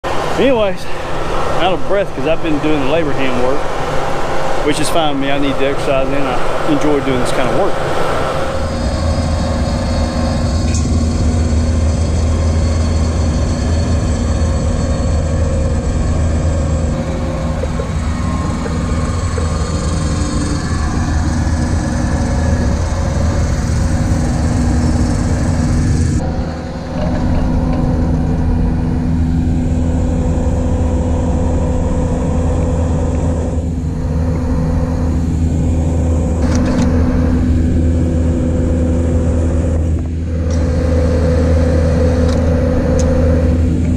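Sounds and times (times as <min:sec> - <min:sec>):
engine running under load: 0:00.0 - 0:43.9.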